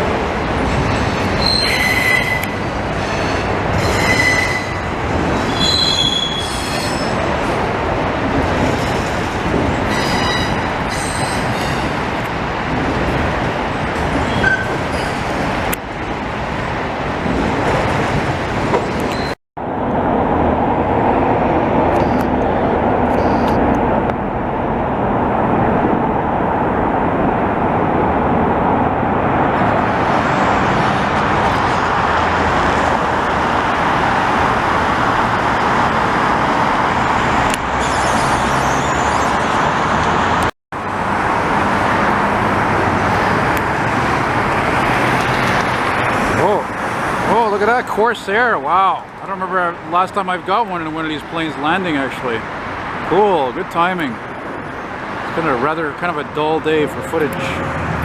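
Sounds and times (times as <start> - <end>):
heavy highway traffic: 0.0 - 58.0.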